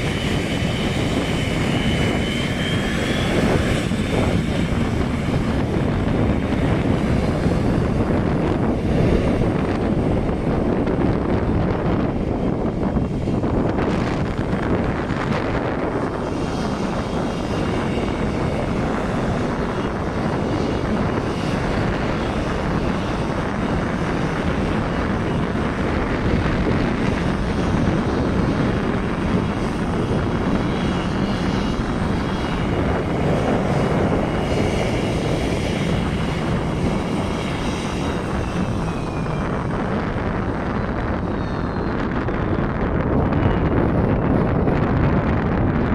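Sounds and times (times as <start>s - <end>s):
jet engines running: 0.0s - 45.9s
wind buffeting microphone: 0.0s - 45.9s.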